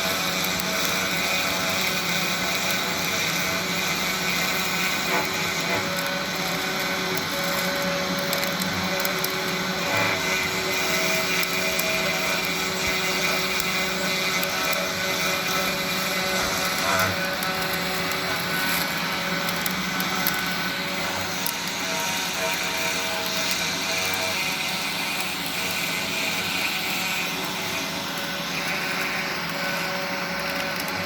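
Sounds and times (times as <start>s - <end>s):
router spindle running: 0.0s - 31.0s
stepper motor tones: 0.0s - 31.0s.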